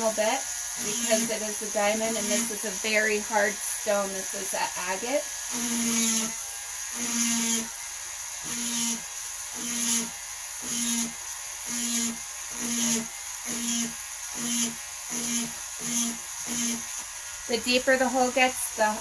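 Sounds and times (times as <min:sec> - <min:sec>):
rotary tool grinding stone: 0:00.0 - 0:19.0.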